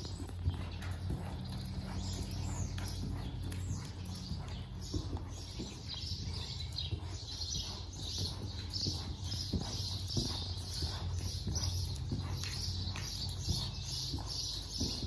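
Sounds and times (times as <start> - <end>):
hoofbeats on sand: 0.0 - 15.0
small birds chirping: 0.0 - 15.0
steady low hum: 0.0 - 15.0.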